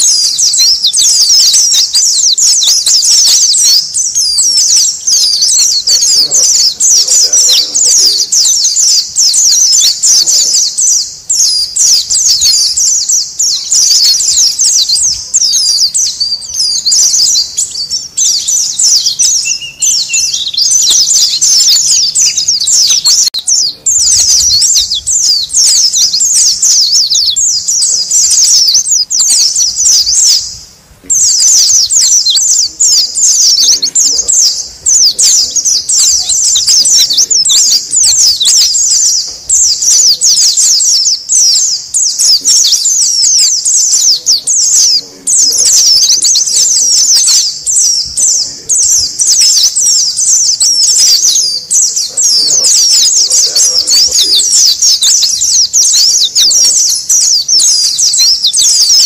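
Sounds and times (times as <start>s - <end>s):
birds chattering: 0.0s - 59.0s.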